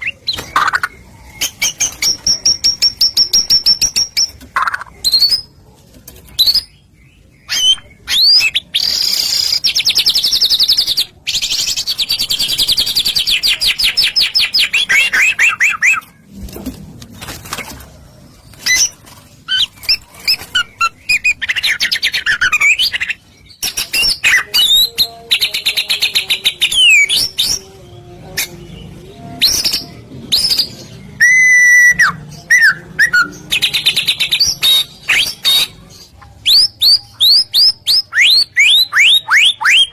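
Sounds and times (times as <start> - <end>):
bird singing: 0.0 - 5.6, 6.3 - 16.3, 18.3 - 39.9.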